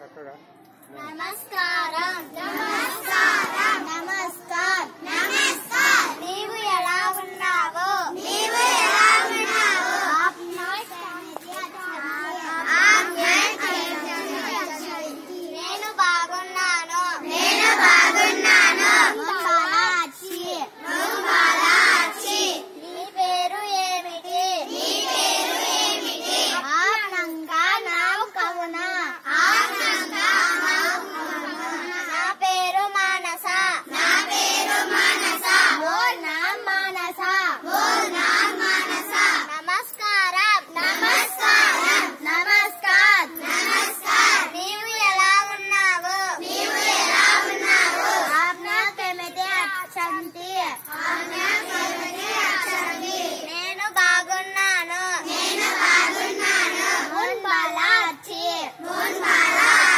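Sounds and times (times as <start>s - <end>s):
children chanting phrases: 0.9s - 59.9s.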